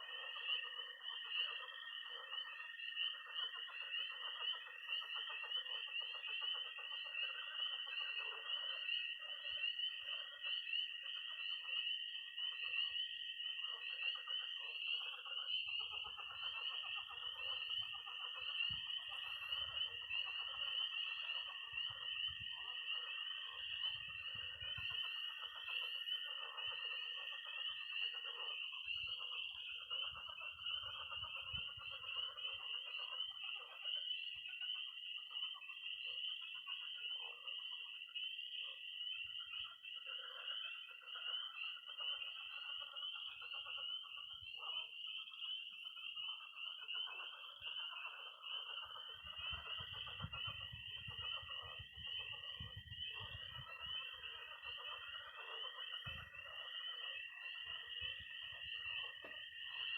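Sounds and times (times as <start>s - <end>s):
frogs croaking: 0.0s - 59.9s
tree frogs peeping: 0.0s - 59.9s.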